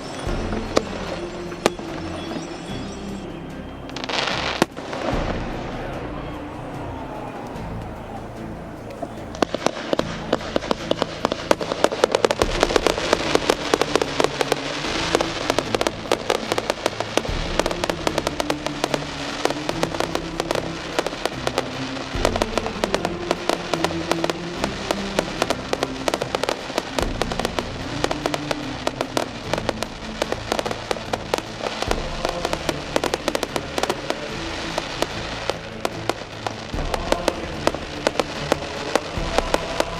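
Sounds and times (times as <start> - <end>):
fireworks bangs and crackles: 0.0 - 39.9
music with held chords: 0.0 - 39.9.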